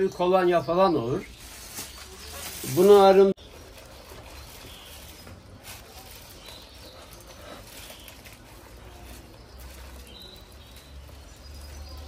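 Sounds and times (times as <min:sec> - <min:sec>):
plastic bag crinkling: 0:01.3 - 0:12.0.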